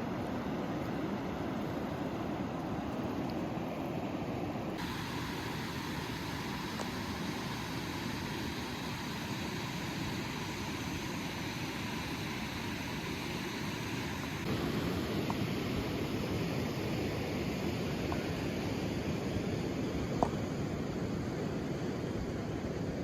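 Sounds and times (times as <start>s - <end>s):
creek water rushing: 0.0s - 21.6s.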